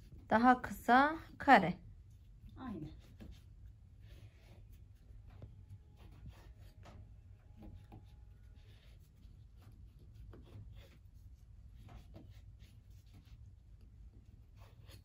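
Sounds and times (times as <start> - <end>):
knife cutting and scraping bread: 2.8 - 15.0.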